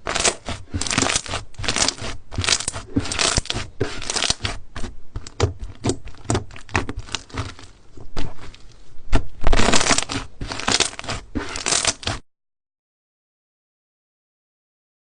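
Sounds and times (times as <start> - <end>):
slime squished by hand: 0.0 - 12.2.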